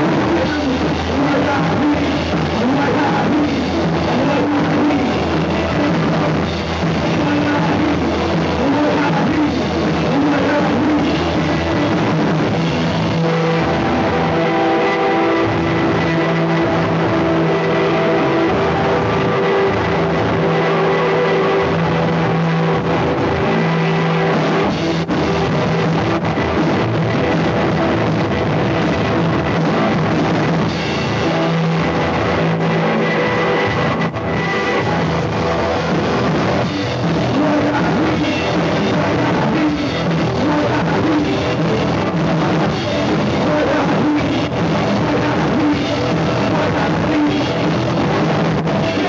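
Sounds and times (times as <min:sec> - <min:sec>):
drum kit: 0:00.0 - 0:49.0
electric bass: 0:00.0 - 0:49.0
electric guitar: 0:00.0 - 0:49.0.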